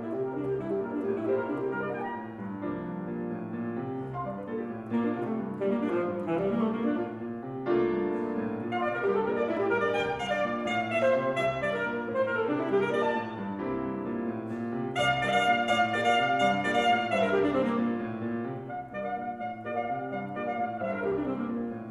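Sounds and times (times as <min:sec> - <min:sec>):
alto saxophone notes: 0:00.0 - 0:02.6, 0:04.1 - 0:13.6, 0:14.5 - 0:21.9
piano chords: 0:00.0 - 0:21.9.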